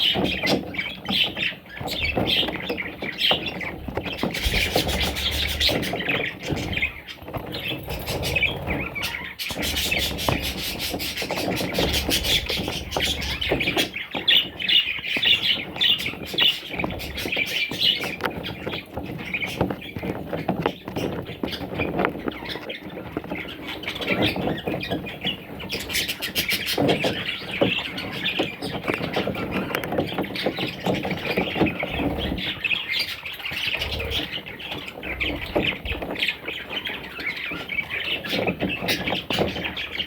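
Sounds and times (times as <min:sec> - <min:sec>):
budgerigars chirping and chattering: 0:00.0 - 0:40.0.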